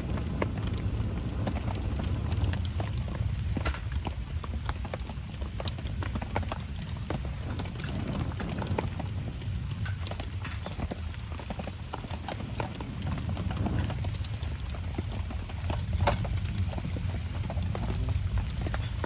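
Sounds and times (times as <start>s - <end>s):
campfire crackling and popping: 0.0s - 19.0s
rain rumble: 0.0s - 19.0s.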